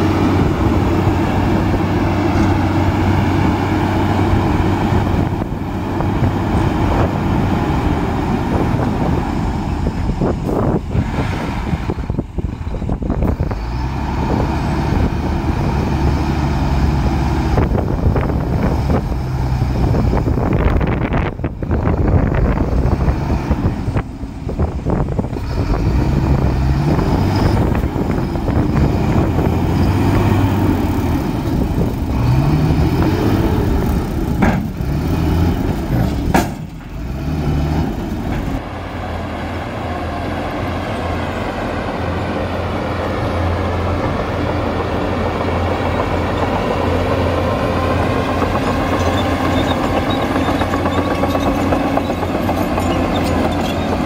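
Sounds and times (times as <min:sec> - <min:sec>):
heavy diesel engine under load: 0:00.0 - 0:54.0.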